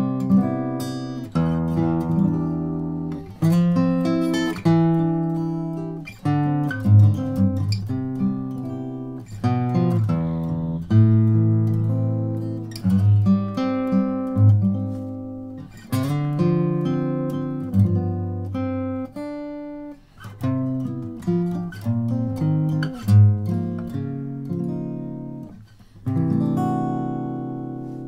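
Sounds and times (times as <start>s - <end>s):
fingerstyle acoustic guitar: 0.0s - 28.0s.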